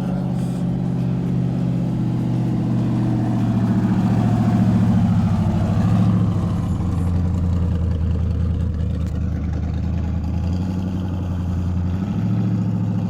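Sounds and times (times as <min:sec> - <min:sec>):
off-road vehicle engine droning: 0:00.0 - 0:13.0.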